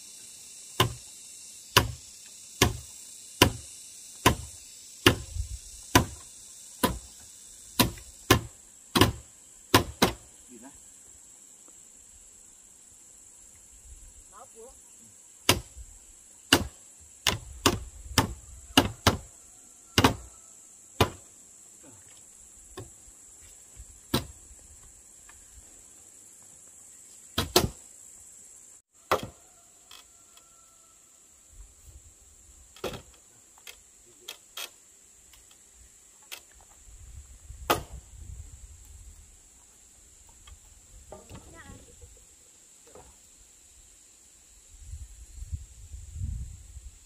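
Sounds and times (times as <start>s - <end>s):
high-pitched insect buzz: 0.0s - 47.0s.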